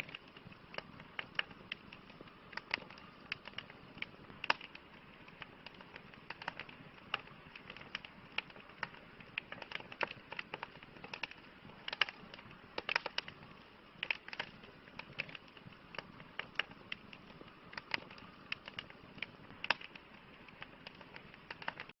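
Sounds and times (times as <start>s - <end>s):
faint steady hiss: 0.0s - 21.9s
campfire crackling: 0.0s - 22.0s.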